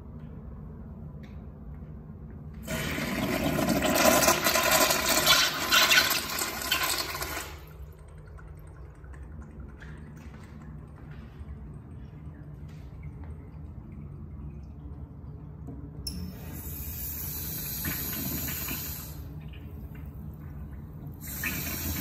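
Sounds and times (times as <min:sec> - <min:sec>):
urinal flushing water rush: 0:02.6 - 0:22.0.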